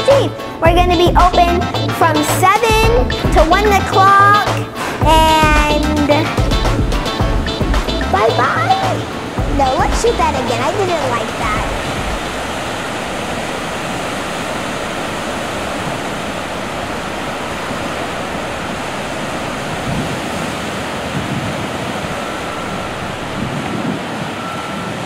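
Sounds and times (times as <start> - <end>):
ocean surf washing: 0.0 - 25.0.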